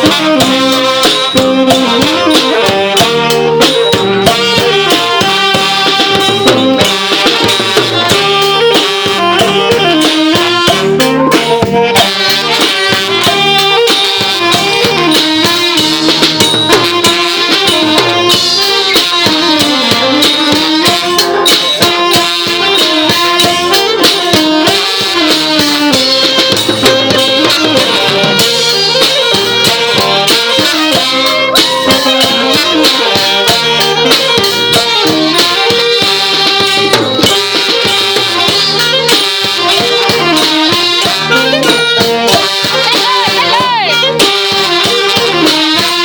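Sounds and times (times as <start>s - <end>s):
brass band wavering melody: 0.0s - 46.0s
steady drumming: 0.0s - 46.0s.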